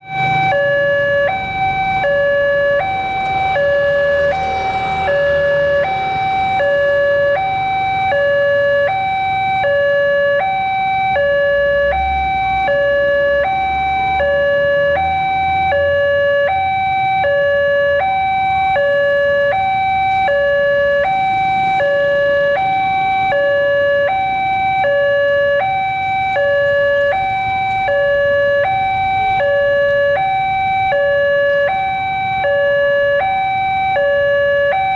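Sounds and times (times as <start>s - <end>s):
level crossing two-tone alarm: 0.0s - 34.9s.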